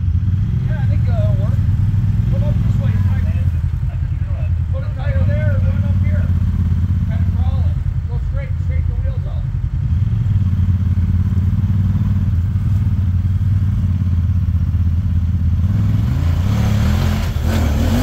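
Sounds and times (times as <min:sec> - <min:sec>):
engine pulling at low revs: 0:00.0 - 0:18.0.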